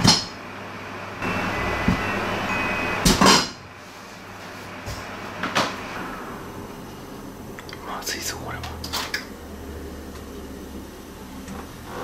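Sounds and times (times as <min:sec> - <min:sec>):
microwave hum: 0:00.0 - 0:12.0.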